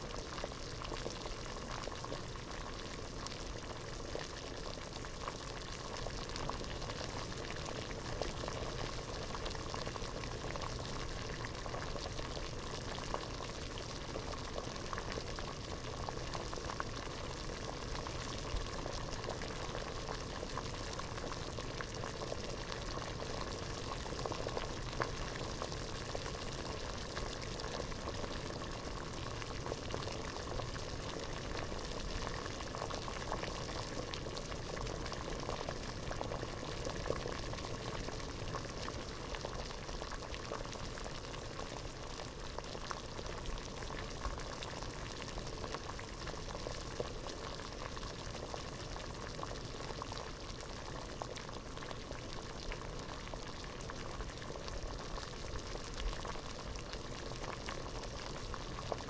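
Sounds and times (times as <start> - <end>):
water boiling in a pot: 0.0 - 59.0.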